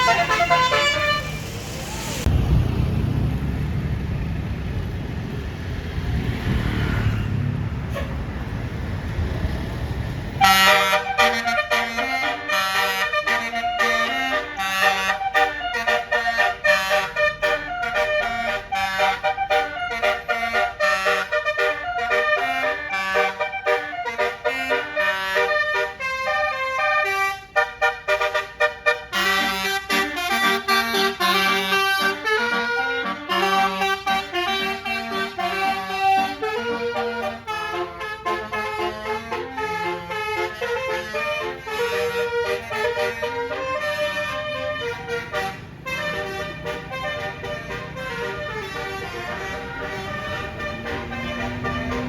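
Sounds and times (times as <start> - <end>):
bus horn playing melody: 0.0 - 2.3, 7.9 - 8.3, 10.3 - 52.0
road and engine rumble: 0.0 - 52.0.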